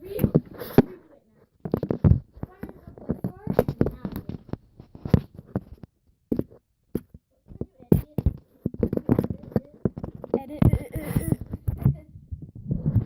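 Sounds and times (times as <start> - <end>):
camera scraping rubs: 0.0 - 13.0.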